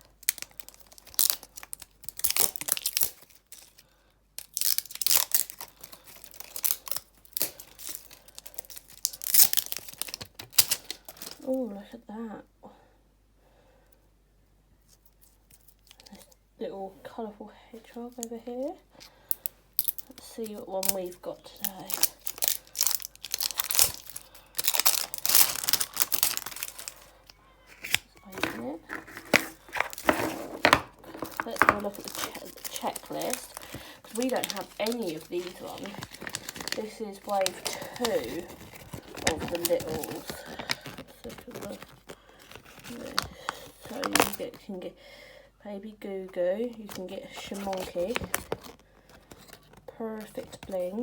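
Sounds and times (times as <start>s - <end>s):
plastic wrapping peeled and crinkled: 0.0s - 11.6s, 14.8s - 16.4s, 17.8s - 44.8s, 46.5s - 51.0s.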